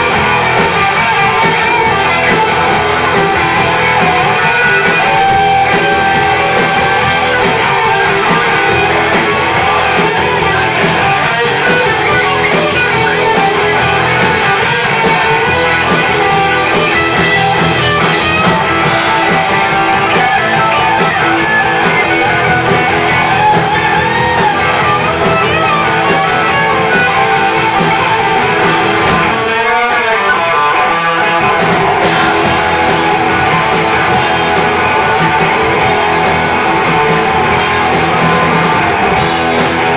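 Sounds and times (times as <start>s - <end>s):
distorted electric guitars: 0.0s - 39.9s
live hard rock band playing: 0.0s - 39.9s.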